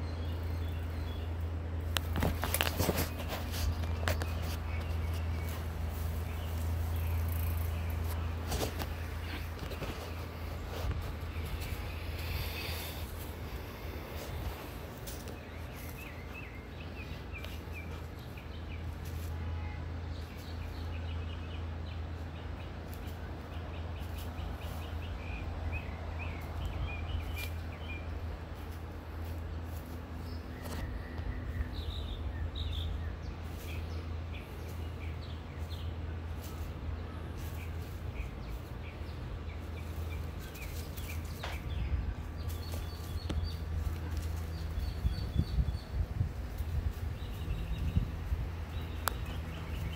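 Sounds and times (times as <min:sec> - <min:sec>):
songbird chirping and singing: 0:00.0 - 0:19.2, 0:20.1 - 0:49.9
steady low hum: 0:00.0 - 0:49.9
dry leaves crackling and rustling: 0:00.3 - 0:49.9.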